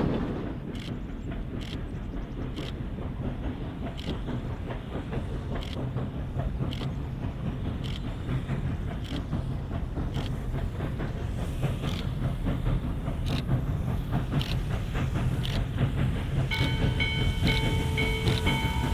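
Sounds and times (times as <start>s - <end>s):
sharp rhythmic beat of train: 0.0s - 18.9s
train rumbling: 0.0s - 18.9s.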